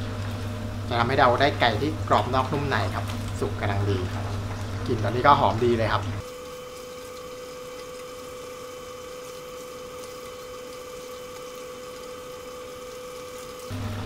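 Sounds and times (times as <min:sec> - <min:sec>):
steady hum: 0:00.0 - 0:12.2
chicken deep-frying in oil: 0:00.0 - 0:14.0.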